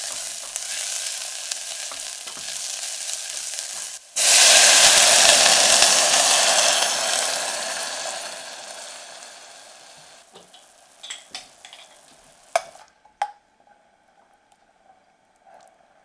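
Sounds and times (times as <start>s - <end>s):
water sizzling in hot pan: 0.0s - 12.9s.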